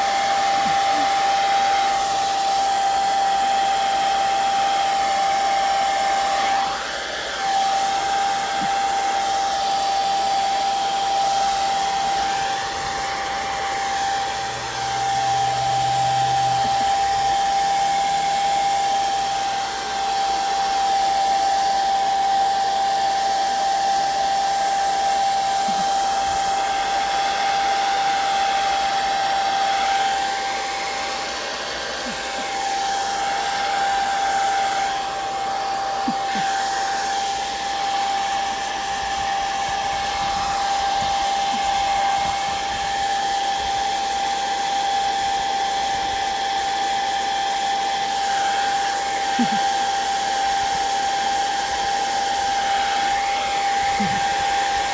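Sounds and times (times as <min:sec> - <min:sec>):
electric dryer whining: 0:00.0 - 0:54.9.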